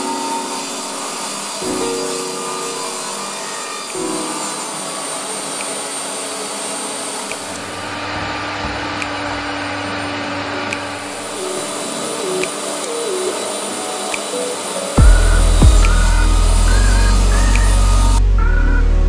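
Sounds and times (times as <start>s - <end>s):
shop vacuum running: 0.0s - 18.2s.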